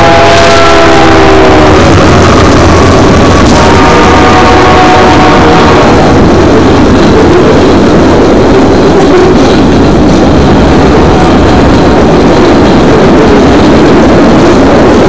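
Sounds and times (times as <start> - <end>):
steady locomotive tones: 0.0 - 15.0
train wheels rumbling on rail: 0.0 - 15.0.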